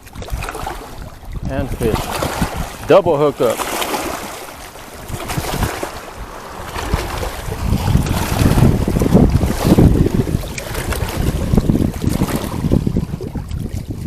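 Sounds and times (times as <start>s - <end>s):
boat noise: 0.0s - 14.0s
water: 0.0s - 14.0s
wind buffeting microphone: 0.0s - 14.0s.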